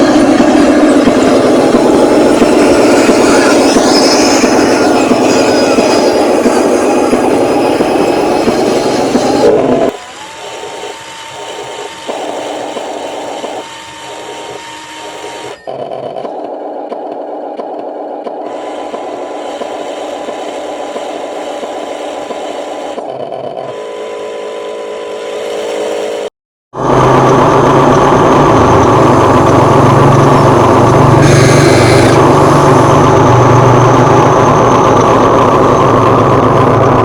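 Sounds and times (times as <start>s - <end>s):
small electric motor whining: 0.0s - 37.0s.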